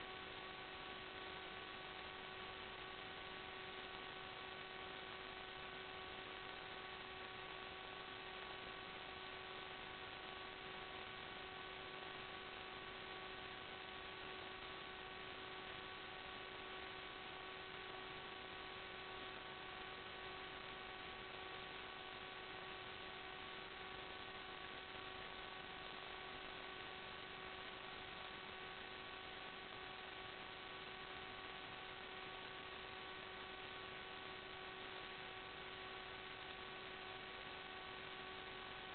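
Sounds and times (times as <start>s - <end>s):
constant hiss: 0.0s - 38.9s
steady electrical hum: 0.0s - 38.9s.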